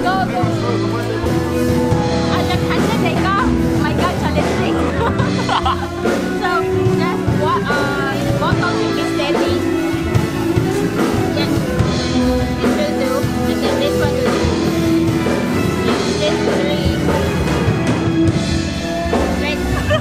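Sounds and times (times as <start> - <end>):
rock band music: 0.0 - 20.0.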